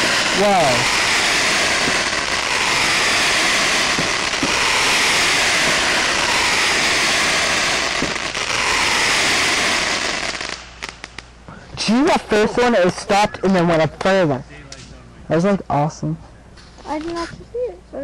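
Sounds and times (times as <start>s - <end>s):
firework fountain hissing and crackling: 0.0s - 14.4s.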